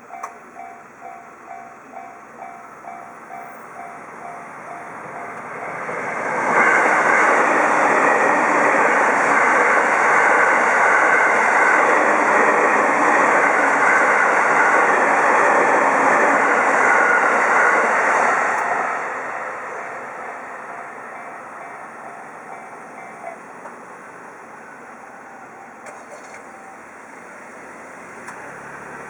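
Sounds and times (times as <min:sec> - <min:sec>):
crossing warning bell: 0:00.0 - 0:29.0
rumble of train wheels on rail: 0:00.0 - 0:29.0.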